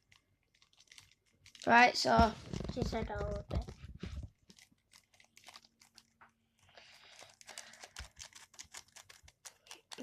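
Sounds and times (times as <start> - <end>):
packet crinkling: 0.0 - 10.0
powder being poured: 0.0 - 10.0.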